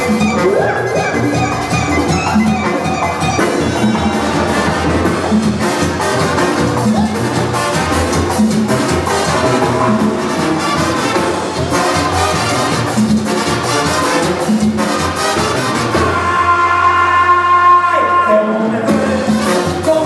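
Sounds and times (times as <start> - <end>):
drums keeping a beat: 0.0 - 17.1, 18.8 - 20.0
trumpets and trombones: 0.0 - 20.0.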